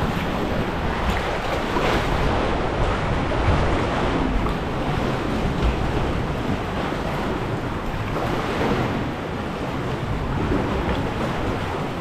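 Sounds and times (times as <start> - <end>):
sea water sloshing against rock: 0.0 - 12.0
wind rumbling on microphone: 0.0 - 12.0.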